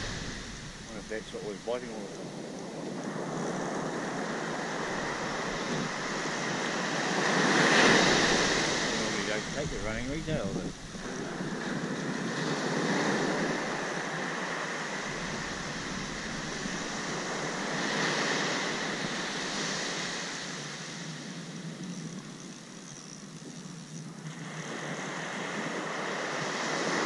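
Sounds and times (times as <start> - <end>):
surf breaking on a beach: 0.0 - 22.8, 23.4 - 27.0.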